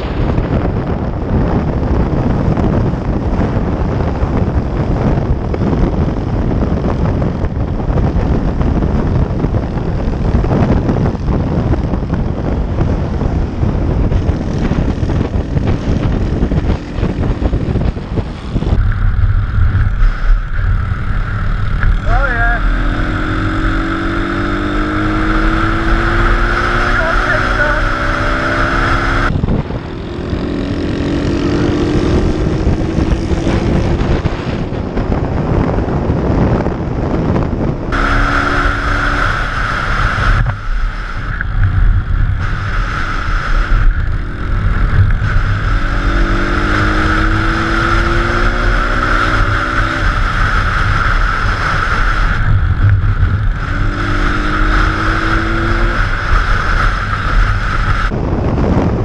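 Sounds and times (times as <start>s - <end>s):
pit bike engine accelerating: 0.0s - 59.0s
wind buffeting microphone: 0.0s - 59.0s.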